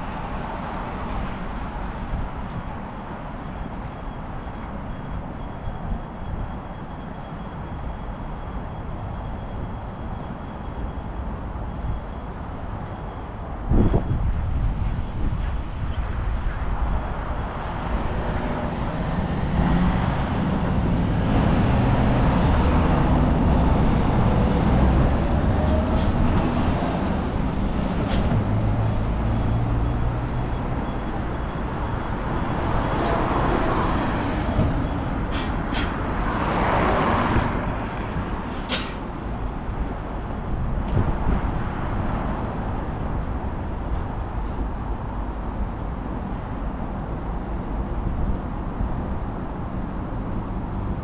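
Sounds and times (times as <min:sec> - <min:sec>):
road traffic rumble: 0:00.0 - 0:51.0.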